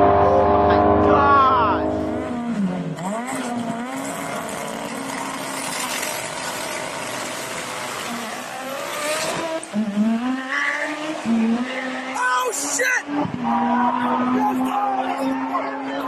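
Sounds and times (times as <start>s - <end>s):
car engines racing: 0.0s - 16.0s.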